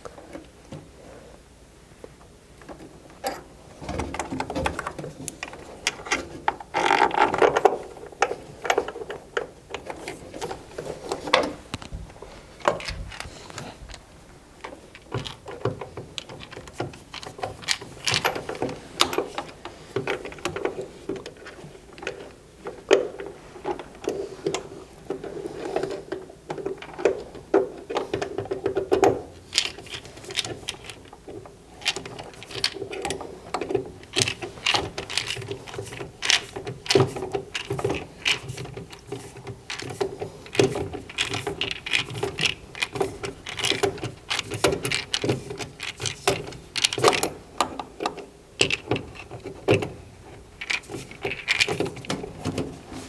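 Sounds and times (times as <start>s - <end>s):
hand tools clicking and clattering: 2.6s - 53.0s.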